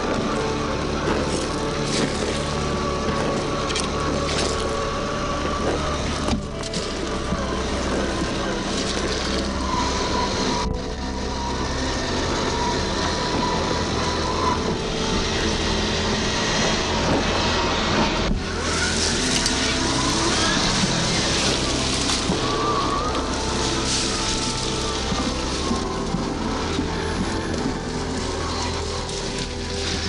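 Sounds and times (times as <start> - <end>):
electric motor whirring: 0.0 - 30.0
tyres on dirt and gravel: 0.0 - 30.0.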